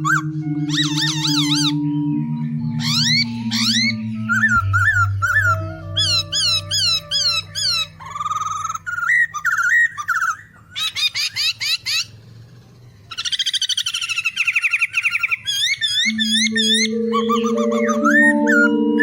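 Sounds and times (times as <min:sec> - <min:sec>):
songbird chirping and trilling: 0:00.0 - 0:19.0.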